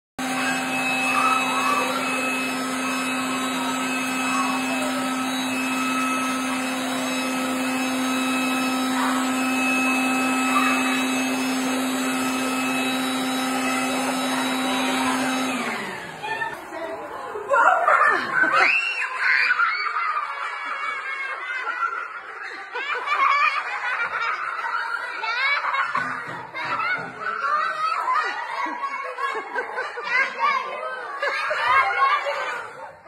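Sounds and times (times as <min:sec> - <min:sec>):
leaf blower running: 0:00.2 - 0:30.2.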